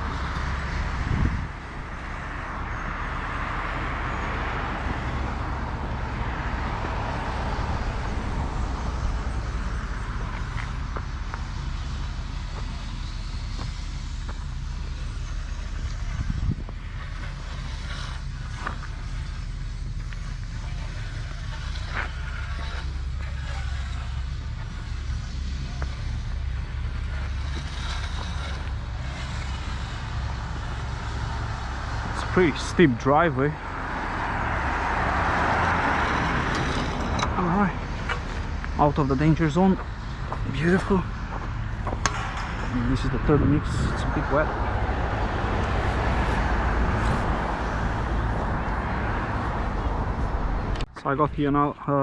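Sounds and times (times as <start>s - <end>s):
road traffic passing: 0.0s - 52.0s
vehicle engine rumbling: 0.0s - 52.0s.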